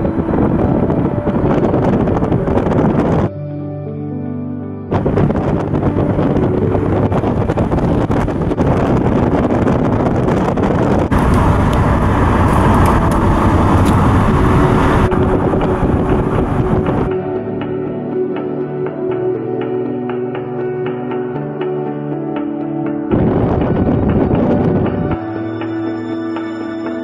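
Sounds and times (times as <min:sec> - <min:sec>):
wind and road noise: 0:00.0 - 0:03.4, 0:04.9 - 0:19.1, 0:22.2 - 0:27.0
background music: 0:00.0 - 0:27.0.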